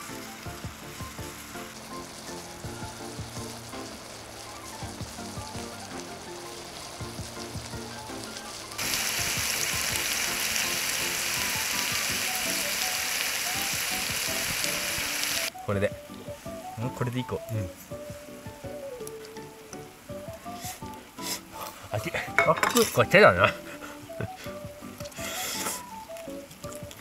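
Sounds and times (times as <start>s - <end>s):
meat sizzling in a skillet: 0.0s - 27.0s.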